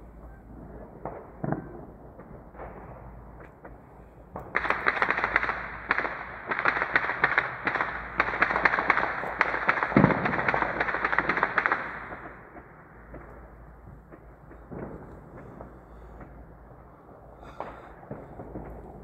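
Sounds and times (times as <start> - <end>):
distant rapid sharp bangs: 0.8 - 19.0.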